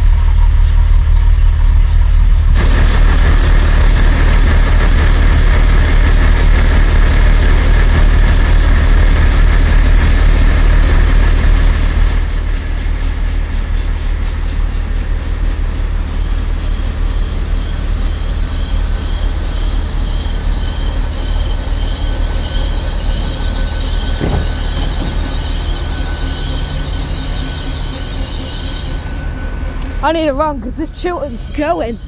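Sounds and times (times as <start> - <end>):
diesel train engine idling: 2.5 - 32.0
hiss: 2.6 - 30.0.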